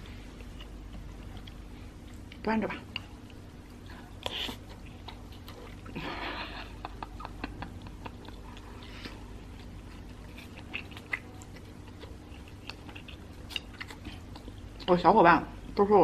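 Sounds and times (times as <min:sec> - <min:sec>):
chewing with wet mouth clicks: 0:00.1 - 0:06.0, 0:06.9 - 0:15.0.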